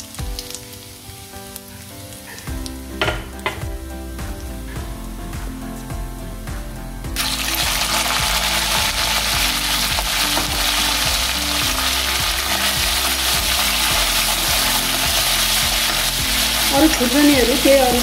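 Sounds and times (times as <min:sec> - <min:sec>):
meat sizzling in hot fat: 0:00.0 - 0:03.6, 0:07.2 - 0:18.0.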